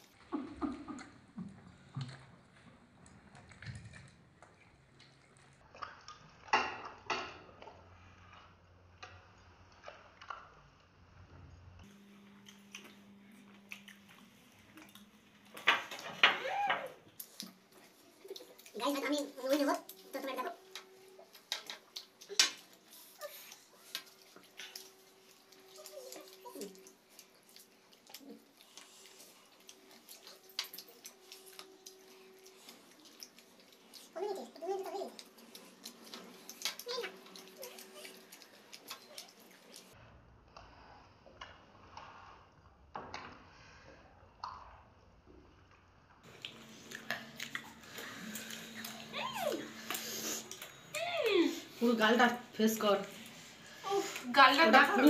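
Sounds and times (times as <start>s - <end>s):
people chewing: 0.0s - 10.7s, 11.8s - 40.0s, 46.2s - 55.0s.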